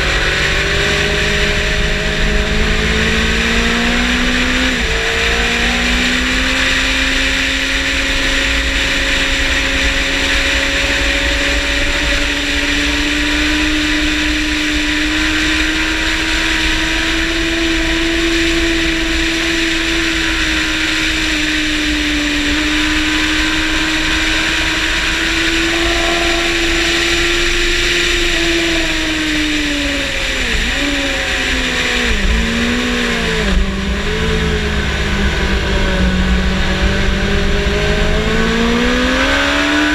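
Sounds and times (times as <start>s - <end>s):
motorcycle engine at high revs: 0.0s - 39.9s
wind rush on microphone: 0.0s - 39.9s.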